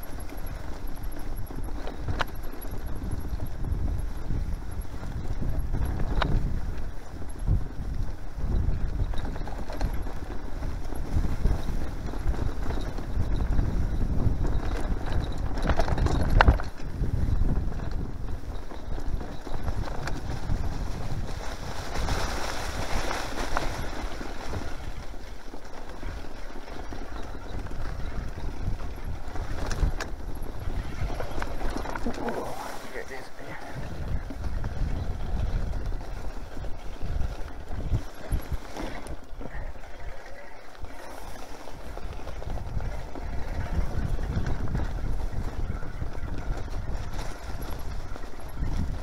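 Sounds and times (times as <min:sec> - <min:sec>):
bike tyres rumbling: 0:00.0 - 0:49.0
wind rushing over microphone: 0:00.0 - 0:49.0.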